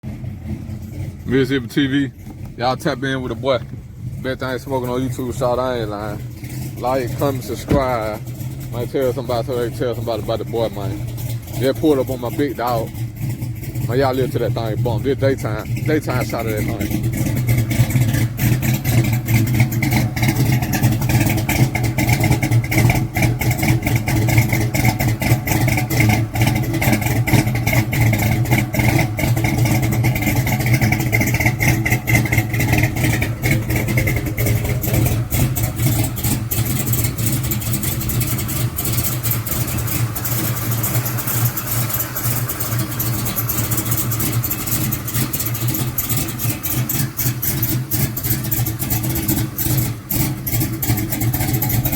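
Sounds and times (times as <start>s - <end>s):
car engine idling choppily: 0.0s - 51.9s.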